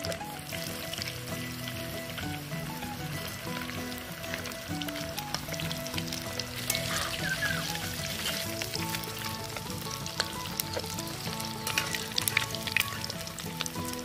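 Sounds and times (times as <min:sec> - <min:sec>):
fish deep-frying in oil: 0:00.0 - 0:14.0
soft background music: 0:00.0 - 0:14.0.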